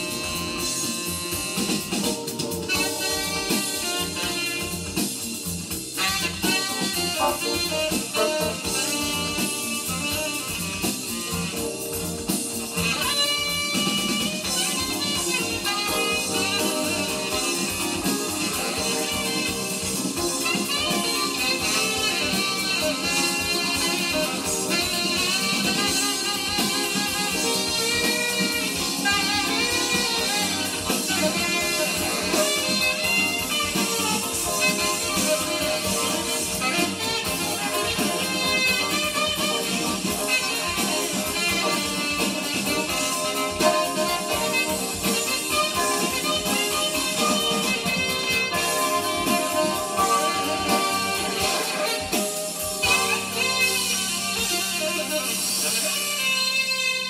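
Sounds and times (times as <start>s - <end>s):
band music from a record: 0.0s - 57.0s.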